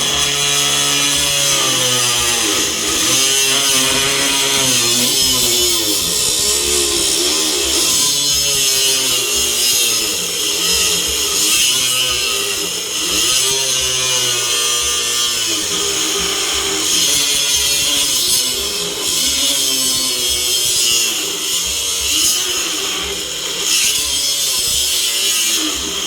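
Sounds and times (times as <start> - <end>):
angle grinder cutting steel: 0.0 - 26.0.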